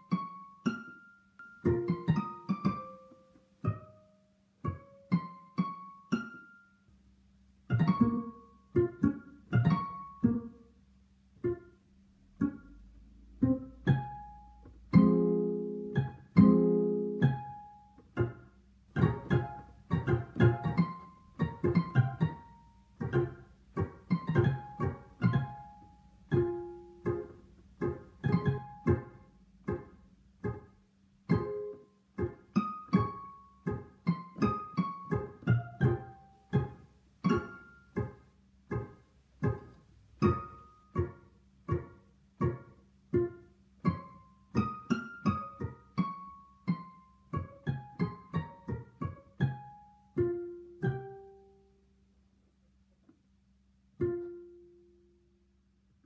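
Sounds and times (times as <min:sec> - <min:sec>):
plucked string tune: 0:00.0 - 0:52.2, 0:52.8 - 0:56.0.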